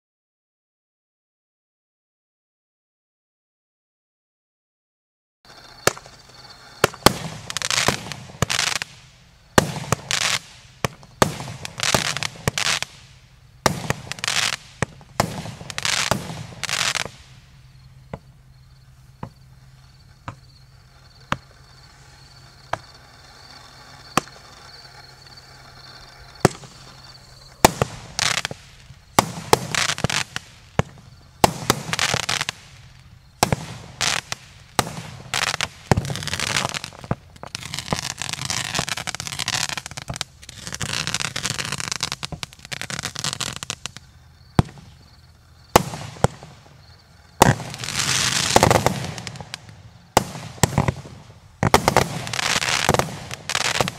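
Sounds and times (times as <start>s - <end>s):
firework launch thumps and bursts: 5.5s - 17.5s, 19.0s - 53.9s
firework cracks: 5.5s - 53.9s
firework hissing tails: 5.5s - 53.9s.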